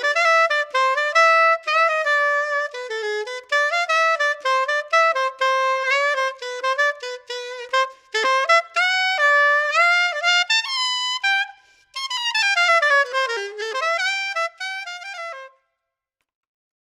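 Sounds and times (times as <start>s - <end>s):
soprano saxophone playing: 0.0s - 15.6s.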